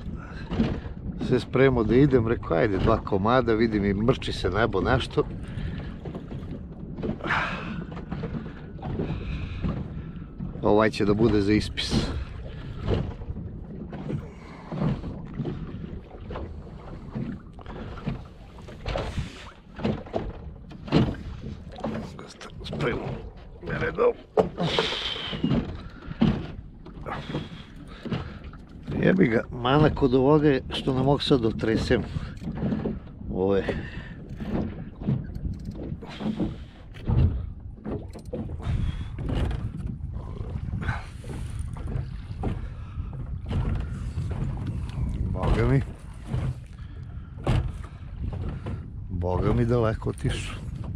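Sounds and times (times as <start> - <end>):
soft knocks of boat: 0.0 - 50.9
waves slapping against hull: 0.0 - 50.9
wind on microphone: 0.0 - 50.9.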